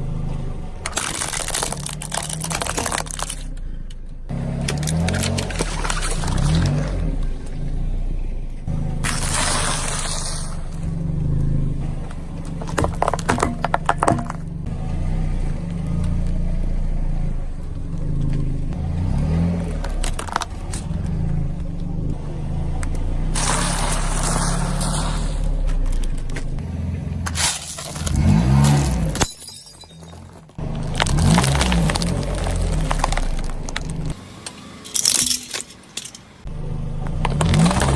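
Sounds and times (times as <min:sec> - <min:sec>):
tyres crunching objects: 0:00.0 - 0:16.5, 0:18.0 - 0:26.6, 0:27.2 - 0:37.9
car engine running slowly: 0:00.0 - 0:29.3, 0:30.0 - 0:35.2, 0:36.4 - 0:37.9.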